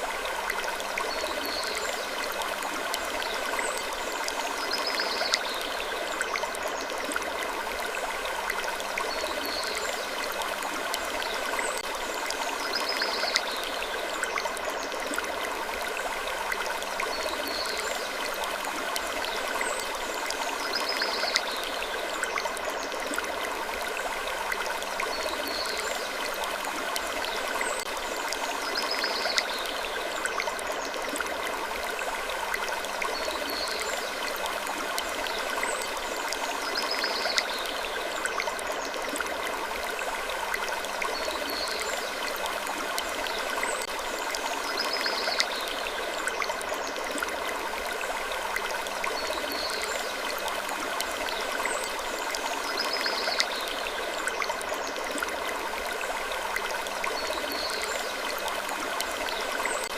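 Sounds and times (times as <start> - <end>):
rushing noise like flowing water: 0.0 - 59.9.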